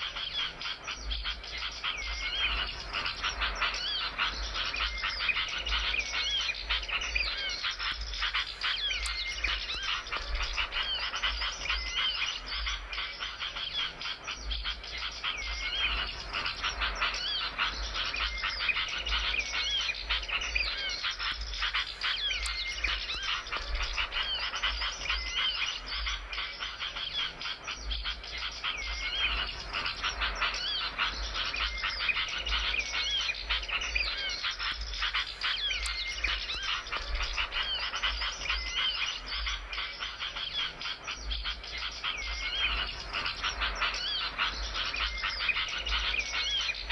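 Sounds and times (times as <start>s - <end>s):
songbird twittering song: 0.0s - 46.9s.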